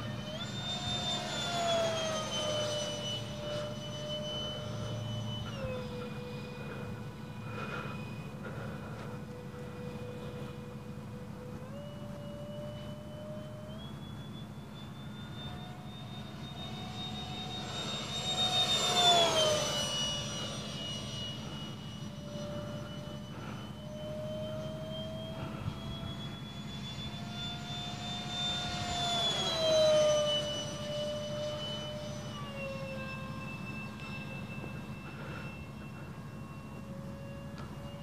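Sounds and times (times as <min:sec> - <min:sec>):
model jet fans whining past: 0:00.0 - 0:38.0.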